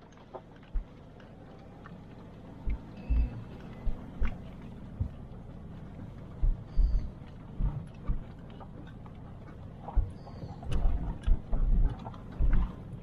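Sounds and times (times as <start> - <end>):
low engine hum: 0.0 - 13.0
suspension thuds and rattles: 0.0 - 13.0.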